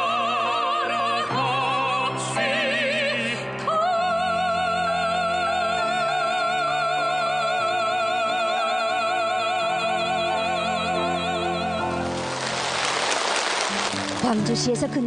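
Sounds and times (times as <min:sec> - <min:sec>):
person singing with vibrato: 0:00.0 - 0:12.5.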